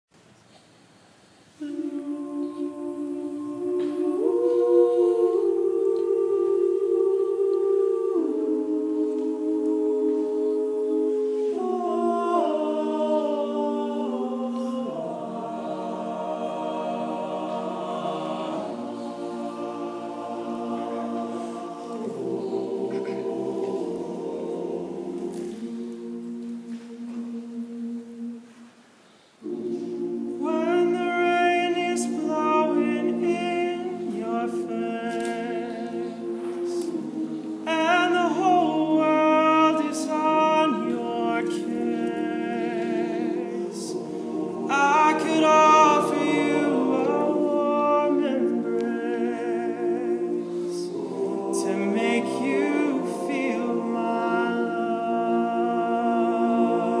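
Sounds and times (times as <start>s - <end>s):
male a cappella group singing: 1.6s - 28.7s, 29.4s - 57.0s.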